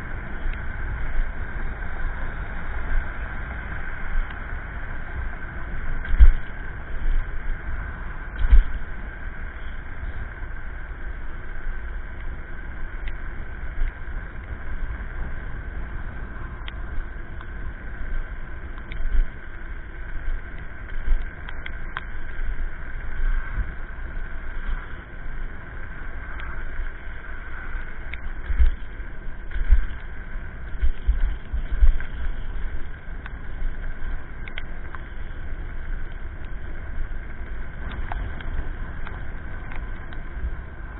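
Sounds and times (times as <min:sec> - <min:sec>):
high-pitched whine: 0:00.0 - 0:40.9
road rumble: 0:00.0 - 0:40.9
wind buffeting microphone: 0:00.0 - 0:40.9.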